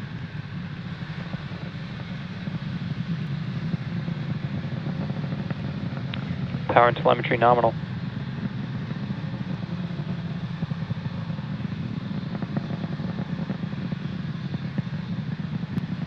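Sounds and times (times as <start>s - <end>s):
rocket engines rumbling: 0.0s - 16.0s.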